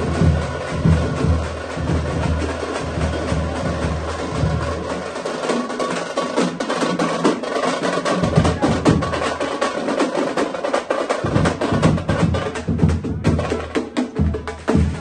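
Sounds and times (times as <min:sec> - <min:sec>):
frame drums beaten fast: 0:00.0 - 0:15.0.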